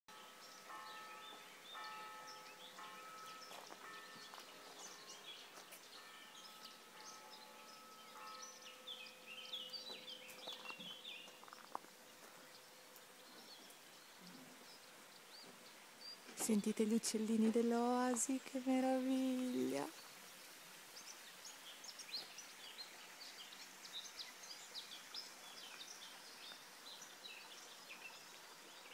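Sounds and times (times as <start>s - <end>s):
songbirds chirping: 0.1s - 28.9s.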